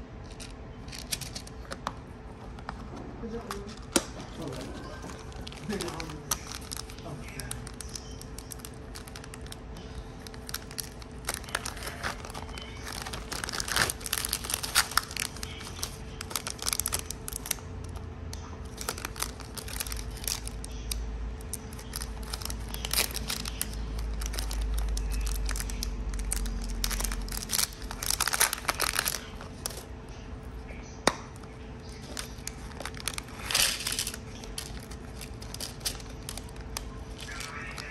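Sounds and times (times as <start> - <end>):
plastic bags crinkling: 0.0 - 1.9, 2.6 - 30.0, 31.0 - 37.9.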